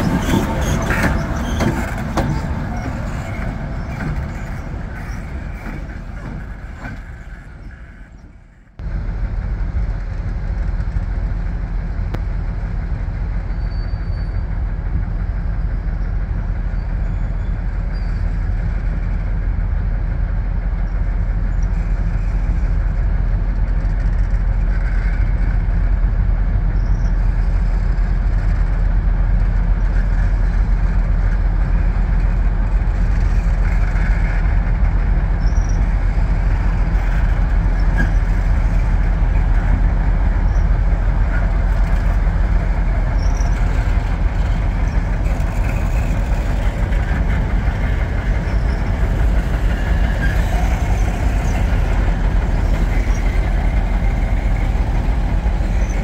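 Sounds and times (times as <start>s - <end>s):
diesel locomotive engines droning: 0.0s - 56.0s.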